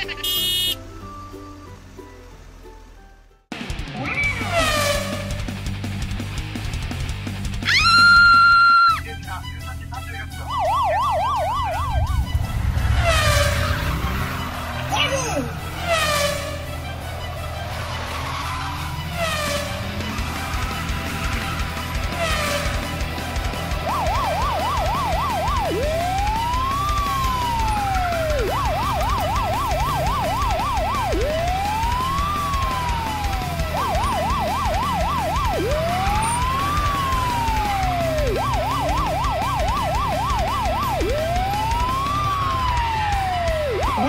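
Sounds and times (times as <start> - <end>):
police car siren: 4.3 - 5.4, 7.6 - 44.0.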